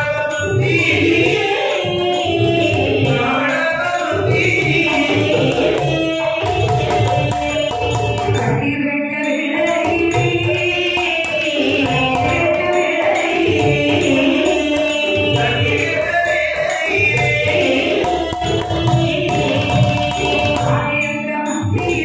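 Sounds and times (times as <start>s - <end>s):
drum and percussion: 0.0s - 22.0s
person singing: 0.0s - 22.0s.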